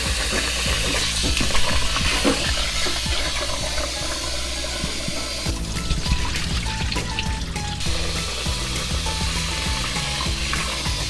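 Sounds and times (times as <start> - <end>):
tap water running into metal pot: 0.0 - 11.0.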